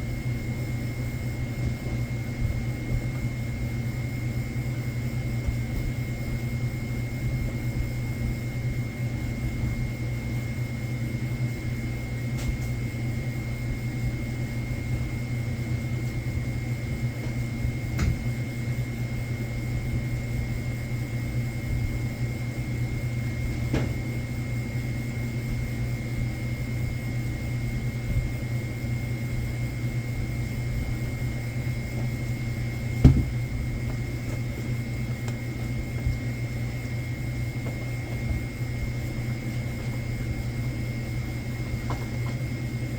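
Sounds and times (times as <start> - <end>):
steady machine hum: 0.0 - 42.9.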